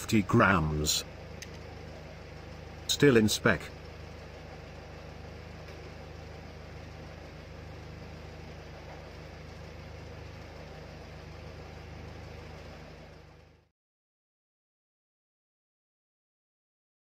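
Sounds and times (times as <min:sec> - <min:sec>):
car engine idling: 0:00.0 - 0:13.7.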